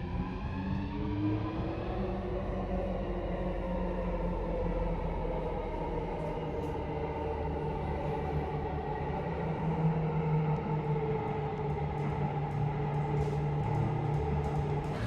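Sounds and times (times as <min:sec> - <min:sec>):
metro train rumbling: 0:01.1 - 0:15.0.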